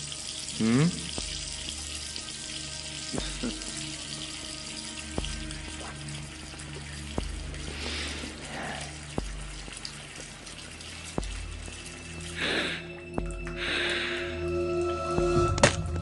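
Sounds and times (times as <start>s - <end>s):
tap water running into a sink: 0.0s - 13.6s
low music score: 0.0s - 16.0s.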